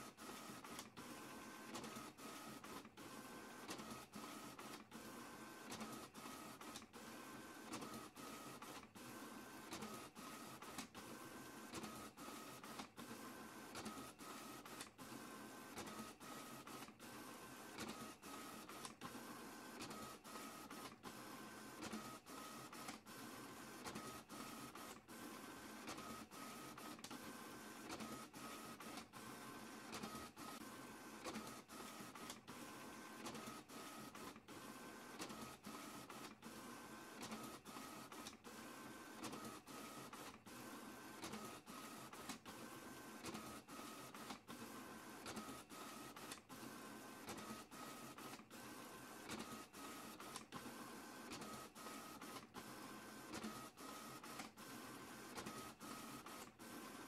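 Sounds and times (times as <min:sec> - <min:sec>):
printer mechanical whir: 0:00.0 - 0:57.0.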